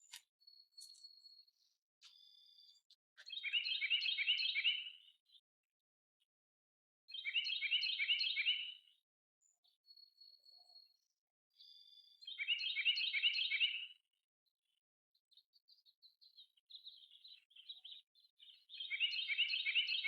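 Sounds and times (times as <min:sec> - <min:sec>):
songbird phrases of repeated notes: 0:00.7 - 0:05.5, 0:07.1 - 0:14.0, 0:15.2 - 0:20.0.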